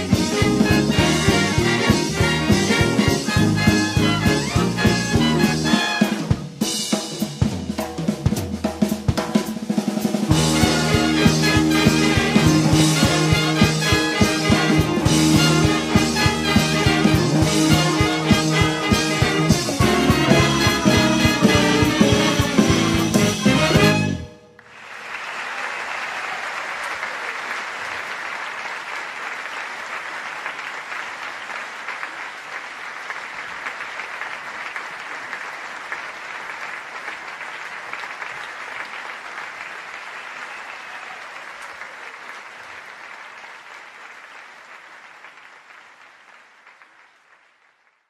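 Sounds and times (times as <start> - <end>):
audience applauding: 0.0 - 6.4, 10.0 - 48.0.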